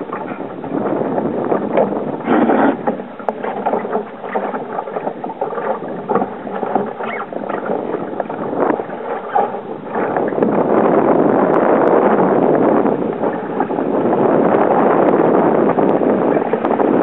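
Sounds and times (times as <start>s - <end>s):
knocks and slaps of water: 0.0s - 17.0s
water and wind rushing around hull: 0.0s - 17.0s.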